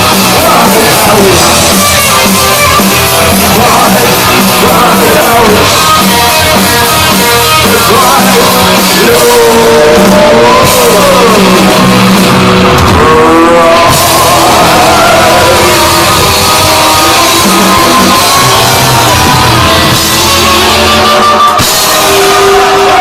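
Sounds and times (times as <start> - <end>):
drum kit: 0.0 - 23.0
electric guitars: 0.0 - 23.0.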